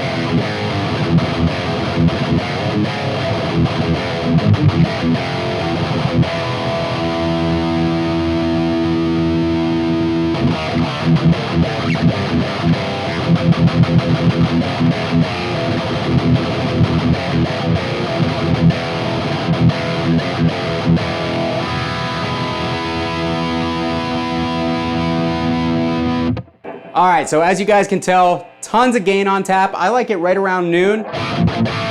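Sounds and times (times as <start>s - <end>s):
distorted electric guitar: 0.0s - 31.9s.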